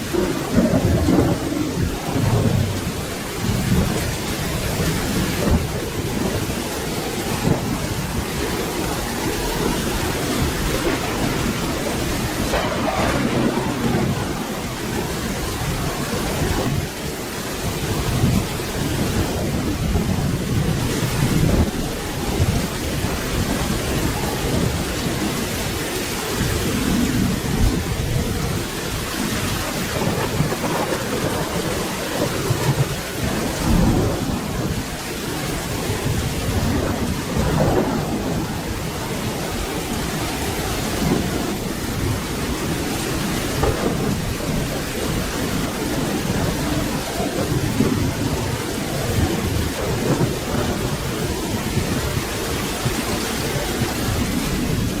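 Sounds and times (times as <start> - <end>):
low thunder rumbling: 0.0 - 55.0
steady rain falling: 0.0 - 55.0.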